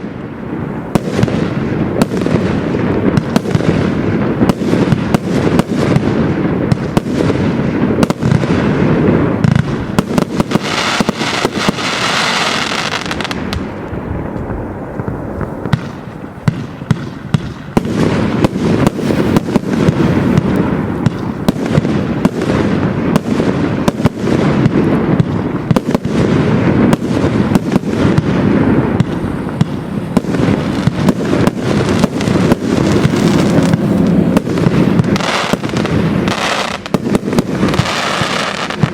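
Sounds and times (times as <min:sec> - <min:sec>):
firework hissing: 0:00.0 - 0:38.9
firework launch thumps and bursts: 0:00.9 - 0:38.9.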